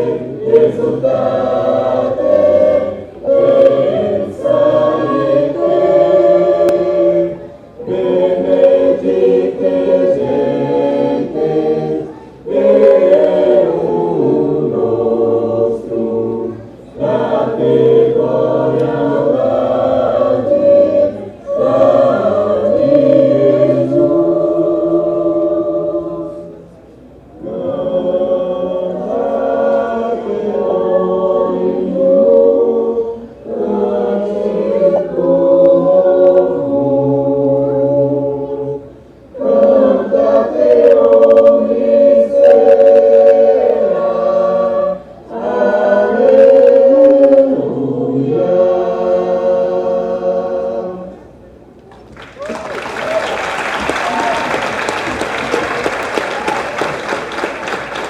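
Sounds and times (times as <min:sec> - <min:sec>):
choir singing: 0:00.0 - 0:26.8, 0:27.4 - 0:51.2.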